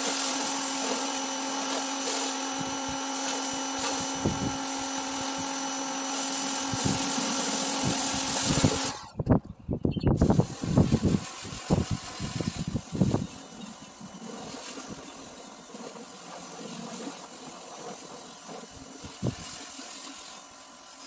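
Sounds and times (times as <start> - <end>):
pressure washer spraying water: 0.0 - 9.1, 10.2 - 21.0.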